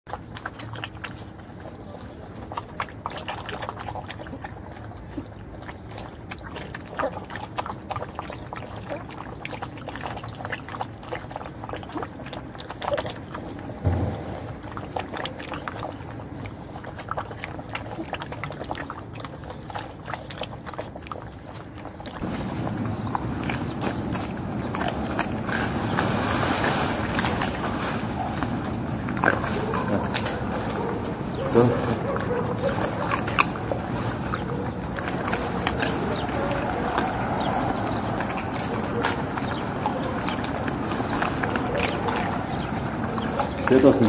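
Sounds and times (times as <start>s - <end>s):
puppies lapping water: 0.0s - 44.0s.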